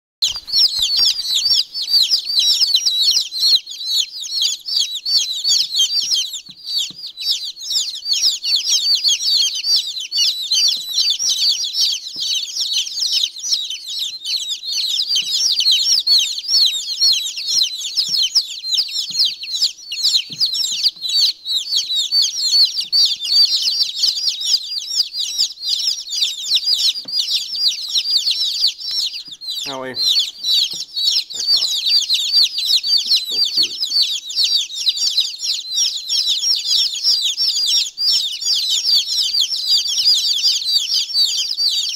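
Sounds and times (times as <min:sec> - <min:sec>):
baby chicks peeping: 0:00.2 - 0:41.9.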